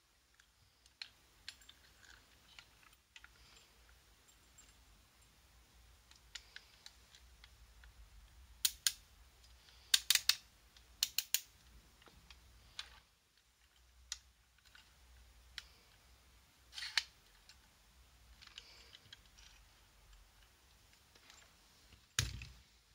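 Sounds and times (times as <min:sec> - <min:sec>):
toy model parts clicking: 0:00.3 - 0:04.0, 0:06.0 - 0:16.0, 0:16.6 - 0:22.5.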